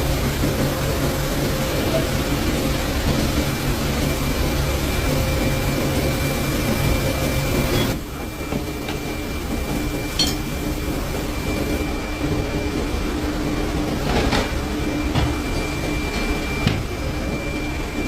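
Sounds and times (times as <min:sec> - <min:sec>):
machine whirring hum: 0:00.0 - 0:18.0.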